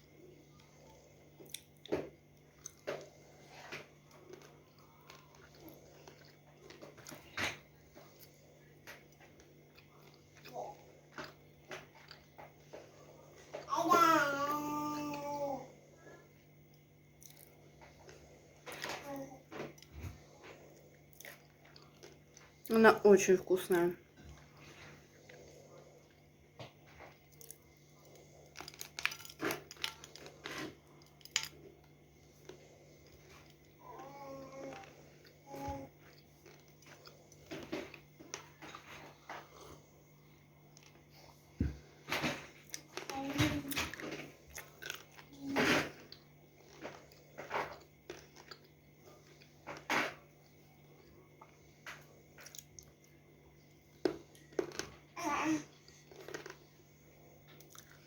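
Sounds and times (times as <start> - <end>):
chewing flaky cake: 0.0 - 13.7, 15.7 - 22.8, 23.7 - 58.0
faint steady hum: 0.0 - 58.0.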